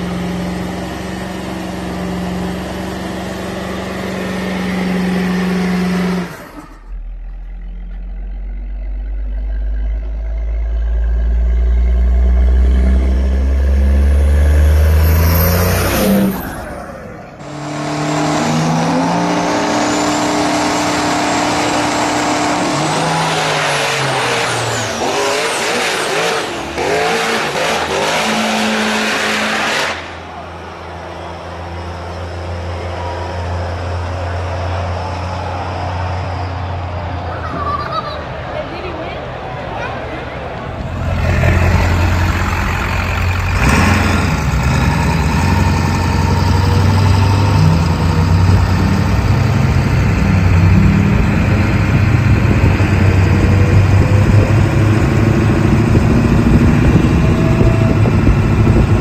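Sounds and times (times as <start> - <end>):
diesel engine revving high: 0.0 - 38.5, 39.2 - 59.0
engine accelerating hard: 0.0 - 59.0.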